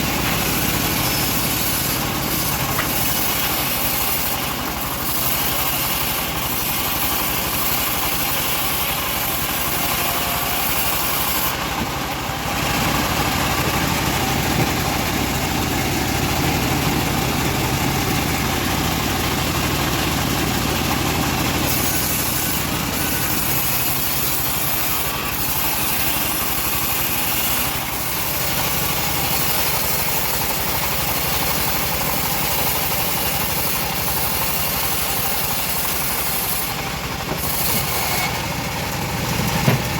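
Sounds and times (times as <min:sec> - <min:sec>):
bandsaw mill running: 0:00.0 - 0:39.9.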